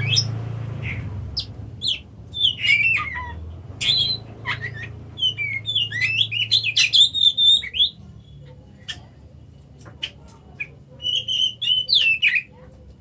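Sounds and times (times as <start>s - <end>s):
songbird singing: 0.0s - 9.2s, 9.8s - 13.0s.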